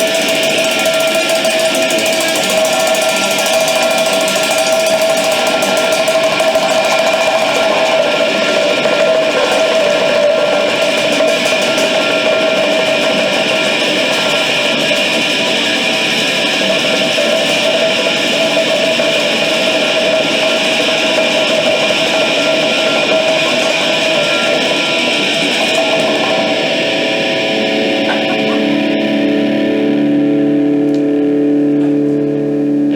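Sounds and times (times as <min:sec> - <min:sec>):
distorted electric guitars: 0:00.0 - 0:32.9.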